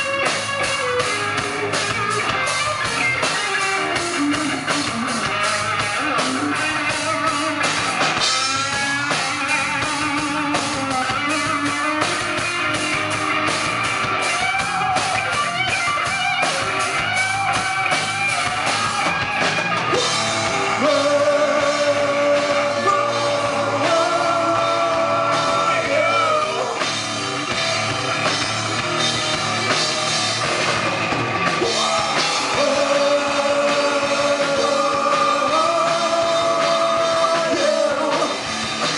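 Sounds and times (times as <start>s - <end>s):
bass guitar: 0.0s - 38.9s
distorted electric guitar: 0.0s - 38.9s
drum kit: 0.0s - 38.9s.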